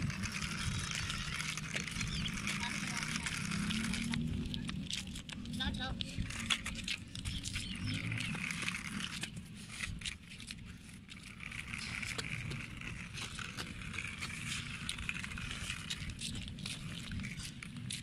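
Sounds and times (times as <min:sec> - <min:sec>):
toy car motor whirring: 0:00.0 - 0:18.0
wheels crackling over grit: 0:00.0 - 0:18.0.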